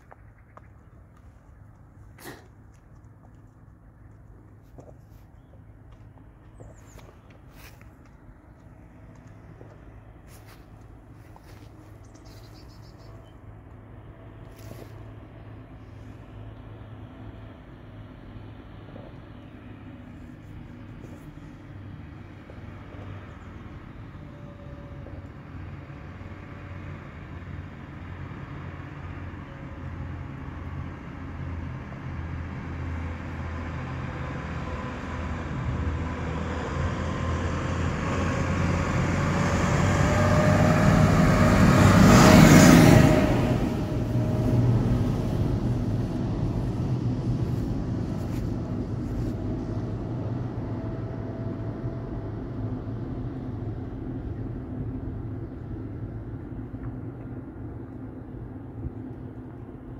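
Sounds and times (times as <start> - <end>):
tractor engine passing: 0.0 - 59.9.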